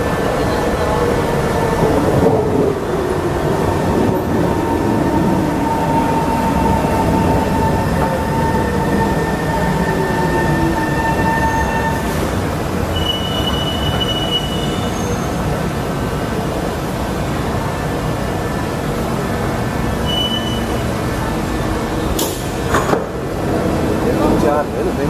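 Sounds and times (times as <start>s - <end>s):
metro train whine slowing: 0.0s - 25.0s
train rumble: 0.0s - 25.0s.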